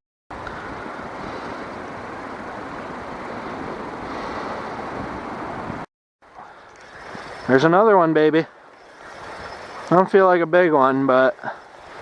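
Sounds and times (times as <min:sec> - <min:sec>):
flowing river water: 0:00.3 - 0:12.0.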